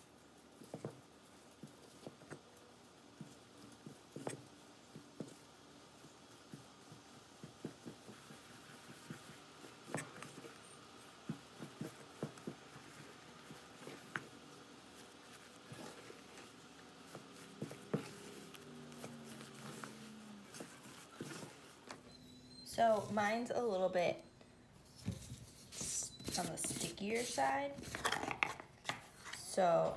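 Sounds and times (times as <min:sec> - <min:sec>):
spatula stirring dough in bowl: 0:00.1 - 0:23.4, 0:25.1 - 0:29.9.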